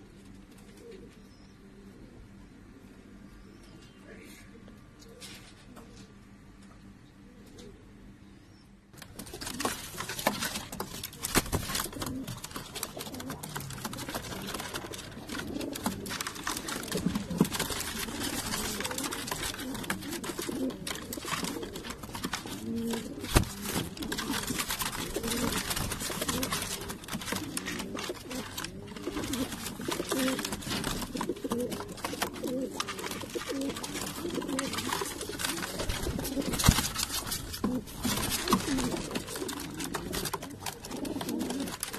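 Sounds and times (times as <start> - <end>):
pigeons cooing: 0.0 - 6.3, 9.1 - 41.9.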